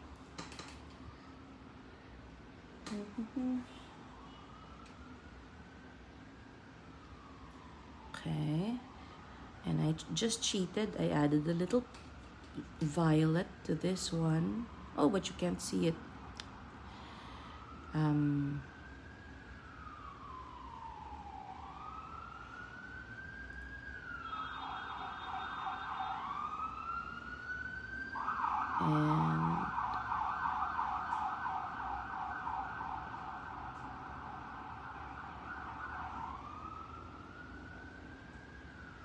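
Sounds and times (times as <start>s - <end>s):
emergency vehicle siren: 1.0s - 39.0s.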